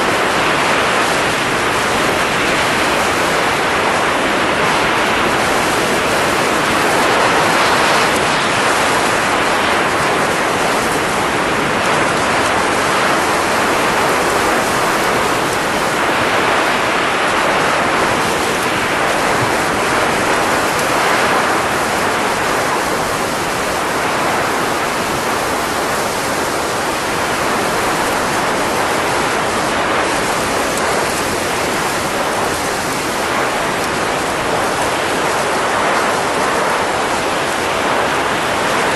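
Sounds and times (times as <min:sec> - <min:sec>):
rushing hiss of blown air: 0:00.0 - 0:38.9.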